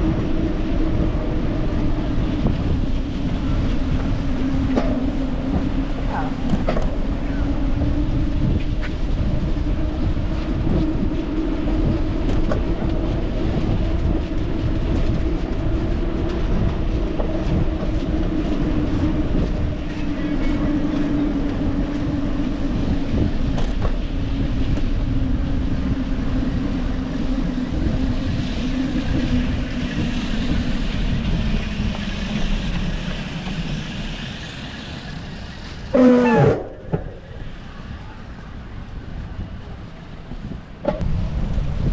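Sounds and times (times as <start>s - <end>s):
tyres rolling on pavement: 0.0s - 41.9s
wind rumble on microphone: 0.0s - 41.9s.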